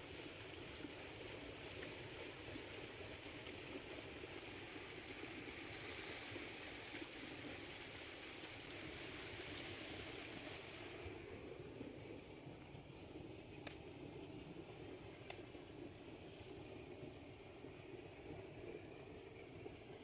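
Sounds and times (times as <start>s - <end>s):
rushing white water: 0.0s - 20.0s.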